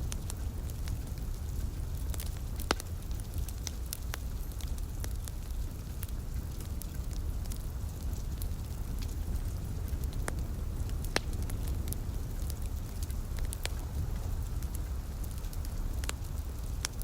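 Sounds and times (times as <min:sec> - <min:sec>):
fire pops: 0:00.0 - 0:17.0
light rain: 0:00.0 - 0:17.0
wood fire crackling: 0:00.0 - 0:17.0.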